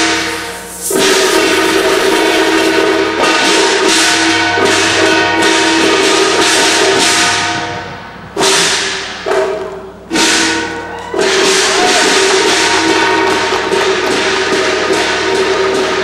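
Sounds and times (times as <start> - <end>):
gongs and cymbals ringing: 0.0 - 16.0.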